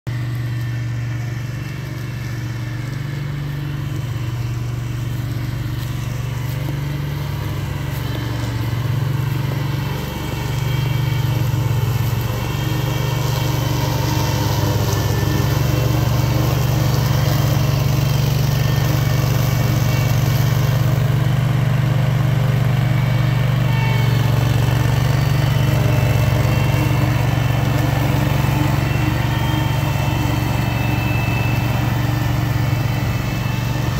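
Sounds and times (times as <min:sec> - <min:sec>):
mower cutting tall grass: 0:00.1 - 0:33.9
mower engine running: 0:00.1 - 0:33.9.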